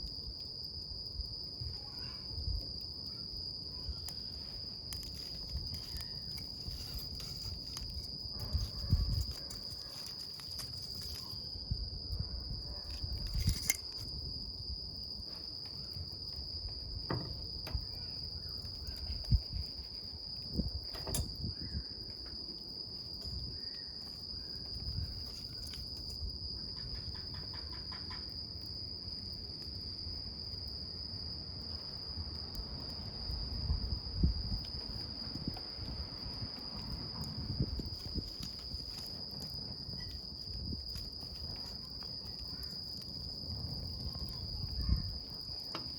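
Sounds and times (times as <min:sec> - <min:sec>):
campfire flames rustling: 0:00.0 - 0:27.6, 0:28.3 - 0:45.9
fire crackles and pops: 0:00.0 - 0:27.6, 0:28.6 - 0:45.9.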